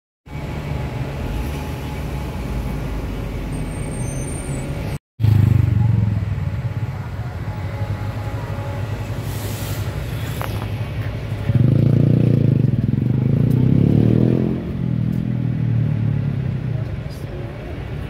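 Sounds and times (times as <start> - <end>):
city street traffic rumble: 0.3 - 18.0.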